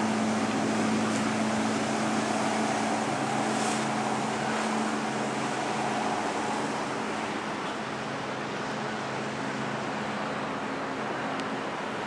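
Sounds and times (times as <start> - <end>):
ship machinery hum: 0.0 - 12.0
wind: 0.0 - 12.0.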